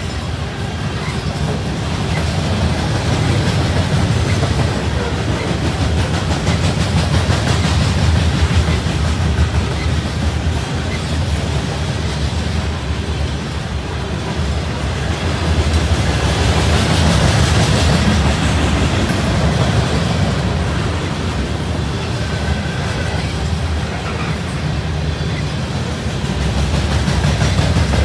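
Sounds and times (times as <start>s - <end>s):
freight train wheels rumbling and rattling: 0.0s - 28.0s.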